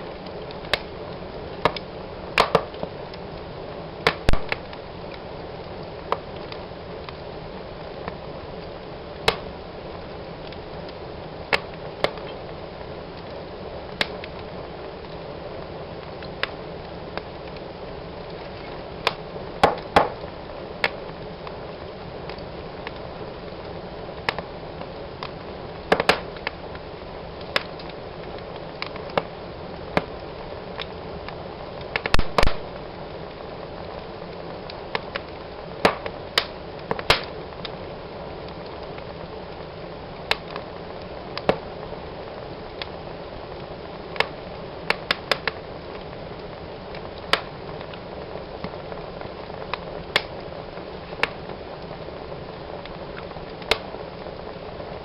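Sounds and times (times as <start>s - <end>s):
flames rushing: 0.0s - 55.0s
wood fire crackling and popping: 0.0s - 55.0s.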